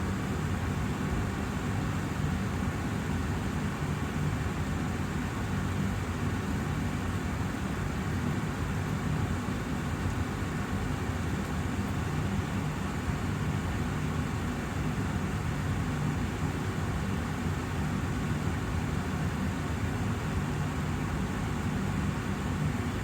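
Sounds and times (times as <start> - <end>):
air purifier fan rushing: 0.0 - 23.0.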